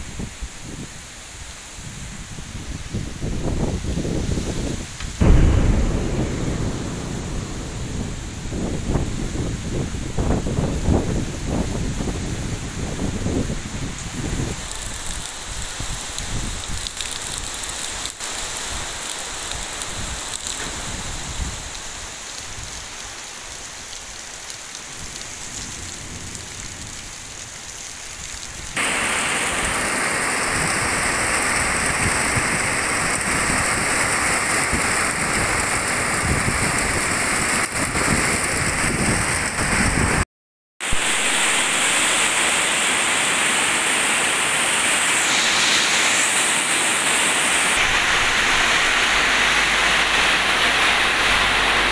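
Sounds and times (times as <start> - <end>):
heavy rain falling: 0.0 - 40.2, 40.8 - 51.9.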